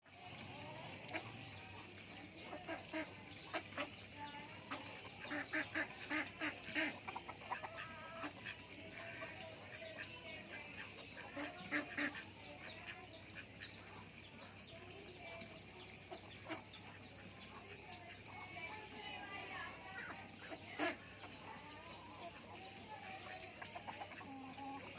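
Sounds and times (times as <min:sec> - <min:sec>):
ducks and farmyard birds calling: 0:00.0 - 0:24.9.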